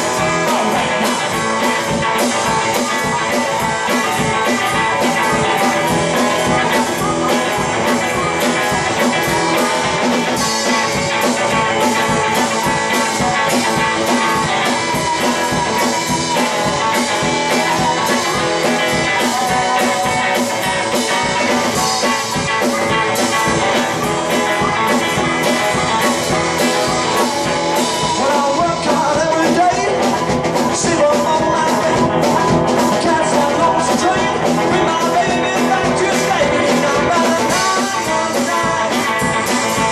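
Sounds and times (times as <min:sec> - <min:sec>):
amplified harmonica wailing: 0:00.0 - 0:39.9
drum kit beat: 0:00.0 - 0:39.9
electric guitar: 0:00.0 - 0:39.9.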